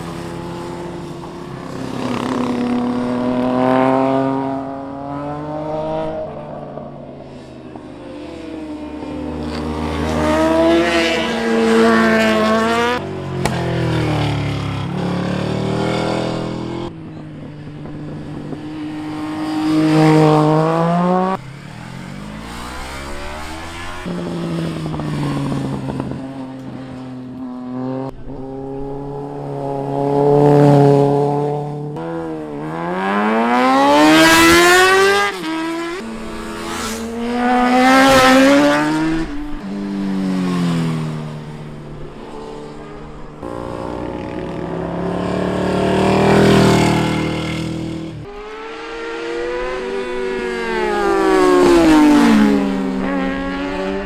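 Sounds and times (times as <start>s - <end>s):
motorcycles revving past: 0.0s - 54.0s.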